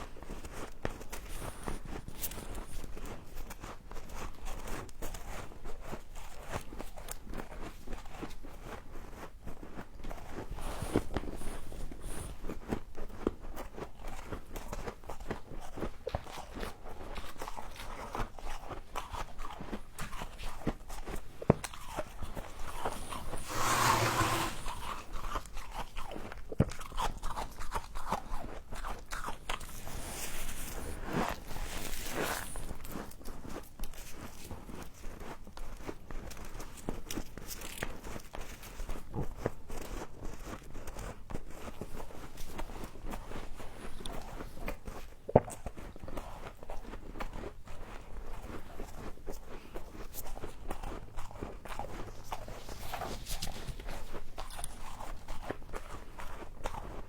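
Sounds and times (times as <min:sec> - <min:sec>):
crunching and chewing frost: 0:00.0 - 0:57.0.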